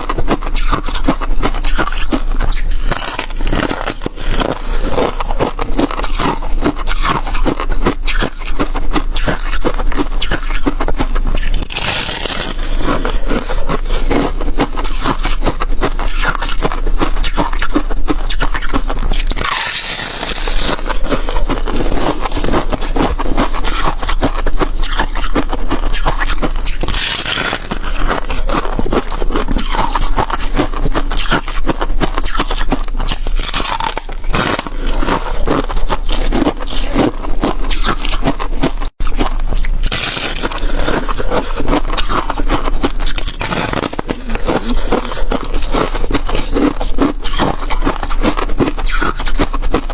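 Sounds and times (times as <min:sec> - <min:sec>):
chewing crunchy ice: 0:00.0 - 0:49.9.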